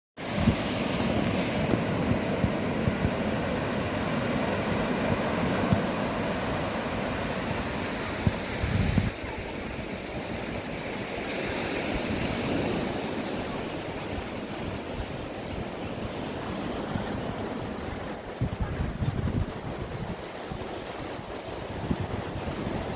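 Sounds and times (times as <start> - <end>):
wind buffeting microphone: 0.3 - 10.7, 11.7 - 22.9.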